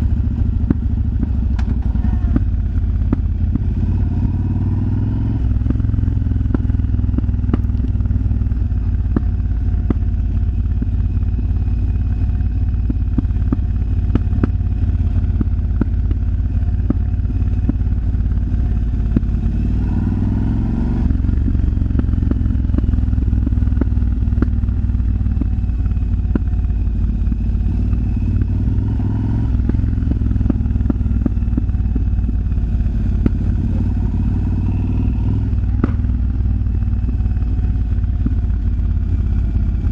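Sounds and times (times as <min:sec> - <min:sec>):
motorcycle engine running: 0:00.0 - 0:39.9
sharp exhaust pops: 0:00.0 - 0:39.9.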